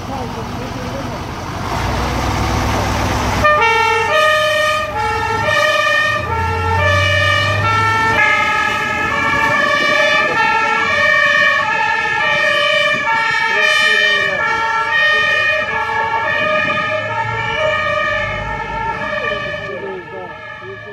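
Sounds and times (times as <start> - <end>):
heavy engine rumbling: 0.0 - 20.9
two-tone emergency sirens: 3.4 - 20.9.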